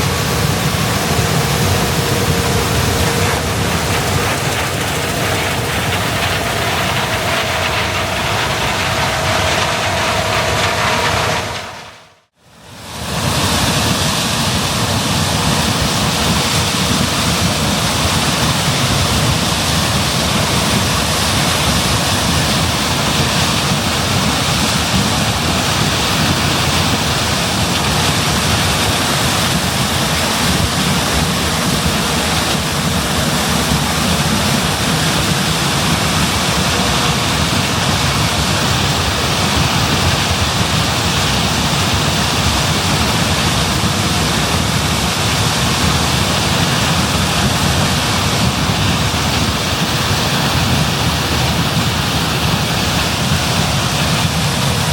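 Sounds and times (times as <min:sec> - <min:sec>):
combine harvester running: 0:00.0 - 0:54.9.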